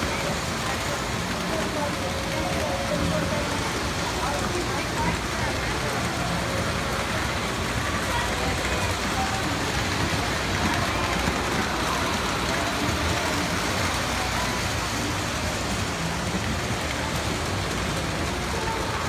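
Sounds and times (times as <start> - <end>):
faint voices talking: 0.0 - 19.0
indoor background din: 0.0 - 19.0.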